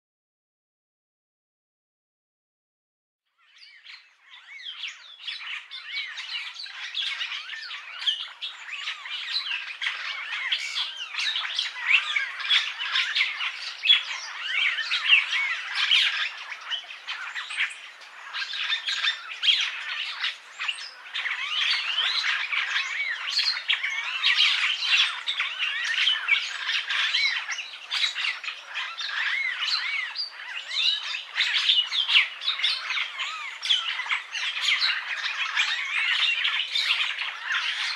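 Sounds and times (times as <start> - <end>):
starling singing: 3.7 - 37.9.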